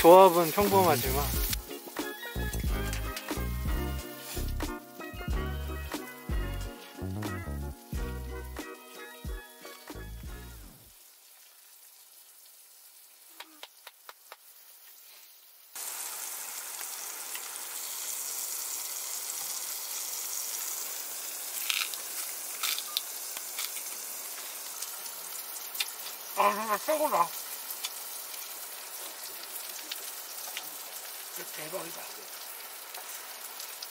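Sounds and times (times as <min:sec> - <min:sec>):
meat sizzling in a hot pan: 0:00.0 - 0:13.4, 0:14.4 - 0:33.9.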